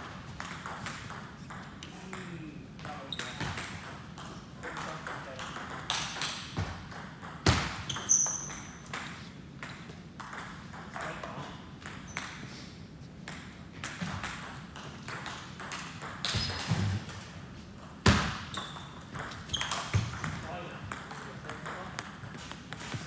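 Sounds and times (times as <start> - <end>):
loud table tennis hit: 0.0 - 12.4, 13.3 - 17.2, 18.0 - 23.0.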